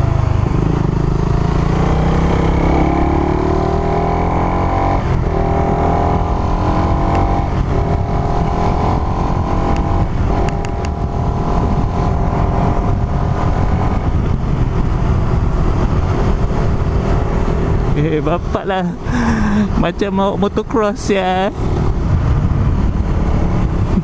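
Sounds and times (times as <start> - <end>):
motorcycle engine running: 0.0 - 24.0
wind rumble on microphone: 0.0 - 24.0.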